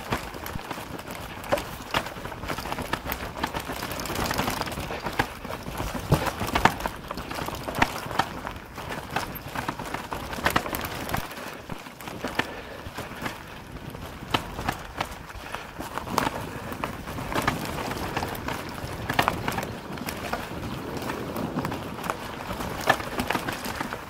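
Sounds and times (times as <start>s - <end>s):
mountain bike rattling and knocking: 0.0s - 24.0s
tyre and wind rush: 0.0s - 24.0s.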